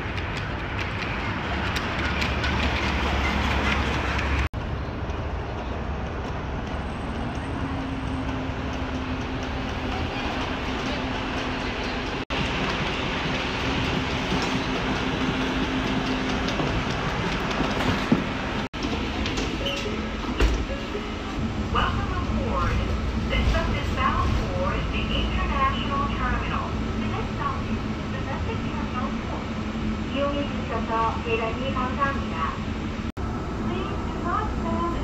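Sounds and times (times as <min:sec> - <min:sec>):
street traffic rumble: 0:00.0 - 0:35.0.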